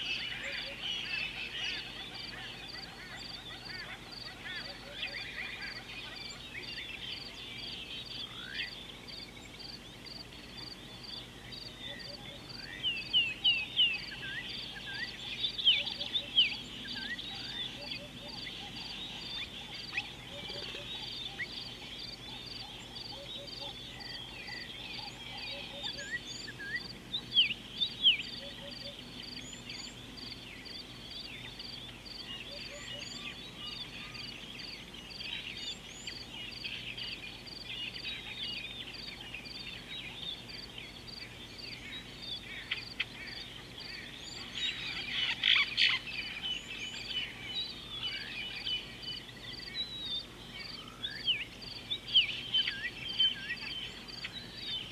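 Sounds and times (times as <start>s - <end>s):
wild birds chirping and whistling: 0.0s - 54.9s.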